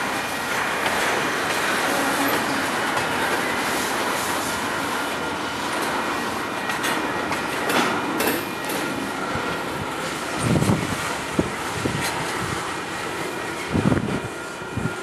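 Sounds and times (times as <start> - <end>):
train wheels clacking over rail joints: 0.0 - 14.2.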